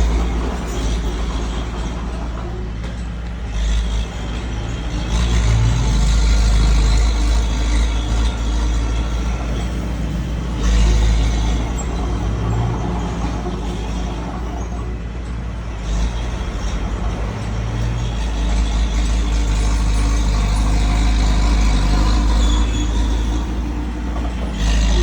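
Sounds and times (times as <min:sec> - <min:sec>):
diesel truck engine rumbling: 0:00.0 - 0:25.0.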